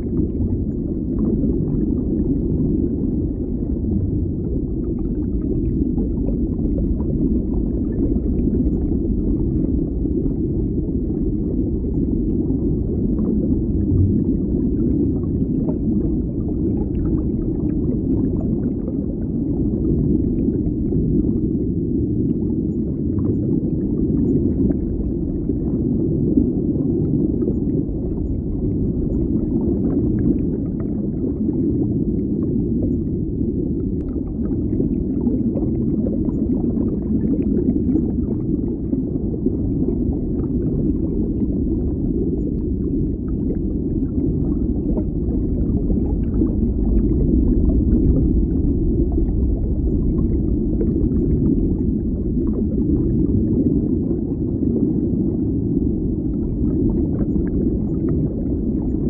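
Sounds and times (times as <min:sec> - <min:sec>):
underwater rumble: 0:00.0 - 0:59.0.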